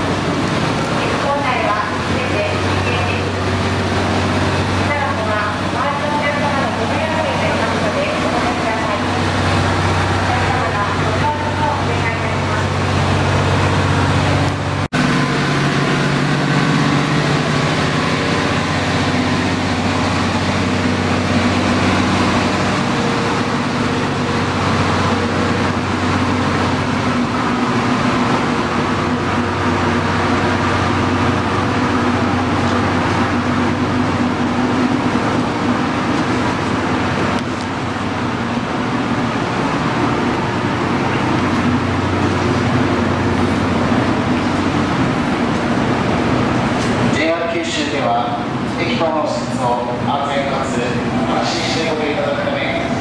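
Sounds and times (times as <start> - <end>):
low engine drone: 0.0 - 53.0.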